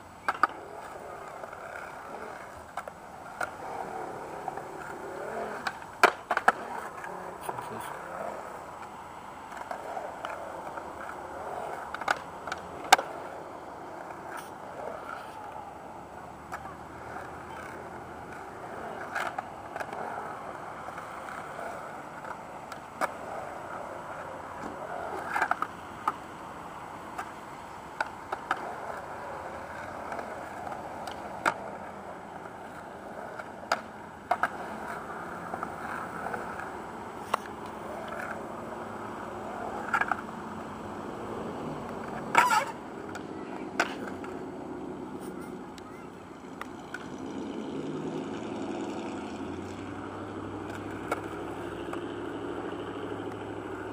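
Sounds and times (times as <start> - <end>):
skateboard wheels rolling on concrete: 0.0 - 53.9
skateboard knocking on concrete: 0.2 - 26.4, 27.0 - 47.1, 50.6 - 52.1.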